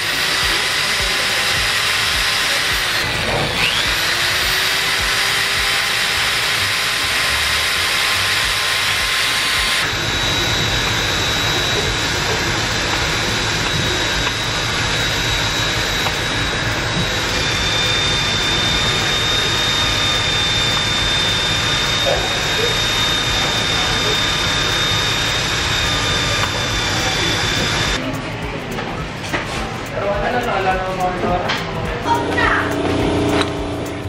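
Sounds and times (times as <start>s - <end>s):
electric drill motor whine: 0.0s - 28.0s.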